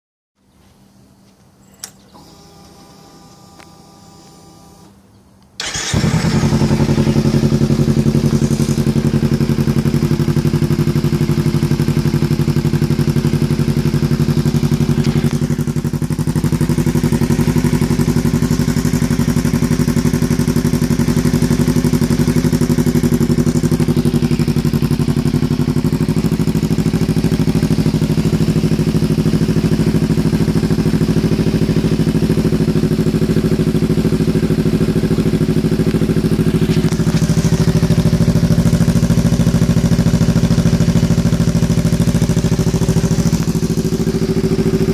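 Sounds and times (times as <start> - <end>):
motorcycle engine starting and idling: 1.5 - 44.9.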